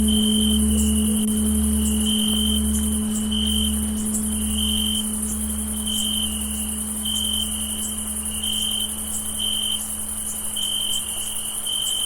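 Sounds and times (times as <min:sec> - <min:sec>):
faint low hum: 0:00.0 - 0:11.6
crickets chirping: 0:00.0 - 0:12.0
insect hiss: 0:00.0 - 0:12.0.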